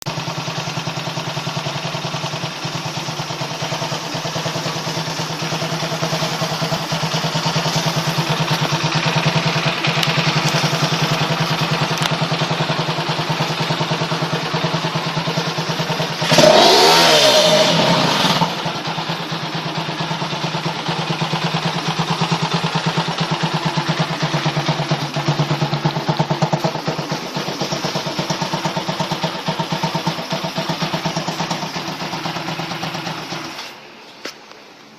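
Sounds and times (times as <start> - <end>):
engine idling: 0.0 - 34.9
engine revving: 0.9 - 33.8.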